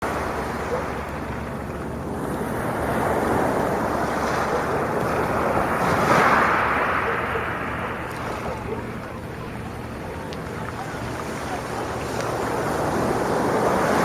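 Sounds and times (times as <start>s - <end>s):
sea waves washing onto beach: 0.0s - 14.0s.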